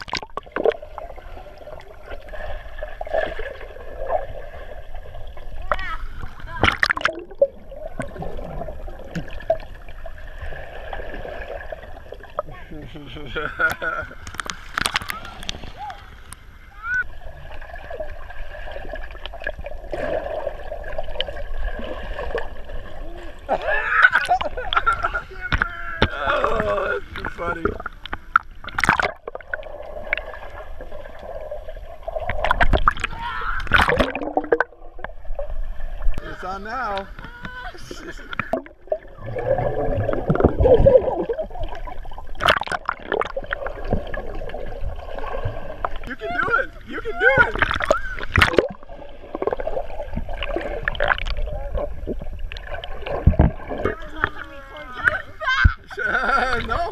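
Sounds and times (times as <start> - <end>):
muffled underwater bubbling: 0.0 - 55.6.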